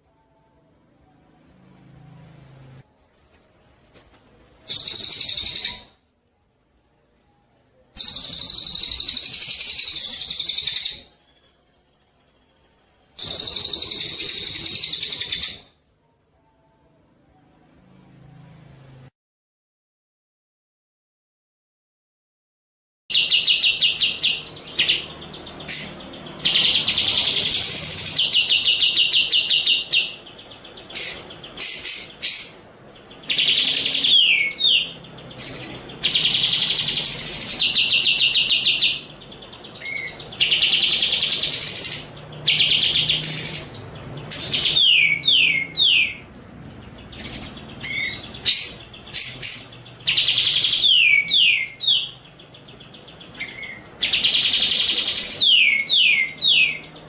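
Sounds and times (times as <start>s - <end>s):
songbird buzzy trills: 0.0s - 19.1s, 23.1s - 57.0s.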